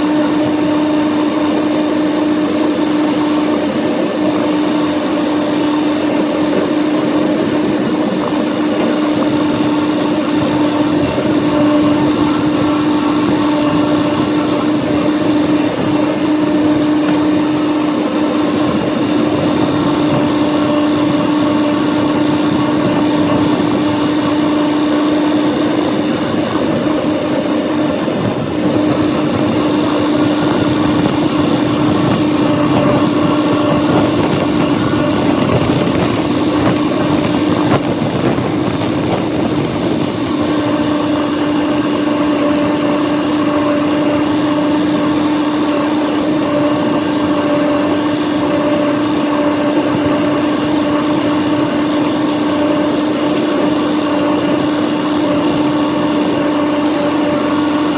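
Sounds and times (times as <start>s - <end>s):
tractor engine droning: 0.0s - 57.9s.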